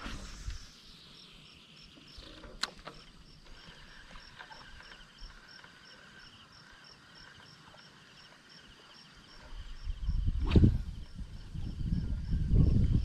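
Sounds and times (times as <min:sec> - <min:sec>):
high cricket chirp: 0:00.0 - 0:13.0.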